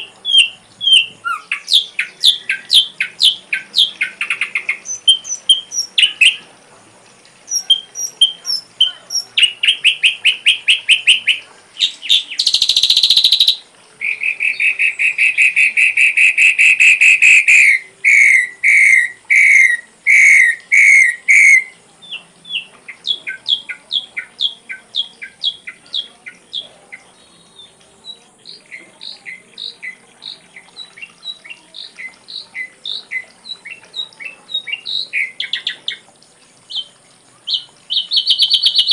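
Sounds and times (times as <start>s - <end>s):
bird singing chirps and trills: 0.0s - 6.5s, 7.3s - 38.9s.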